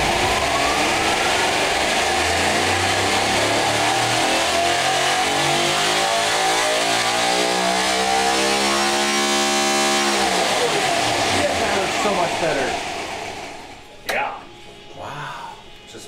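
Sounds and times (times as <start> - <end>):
engine whining rising pitch: 0.0 - 13.9.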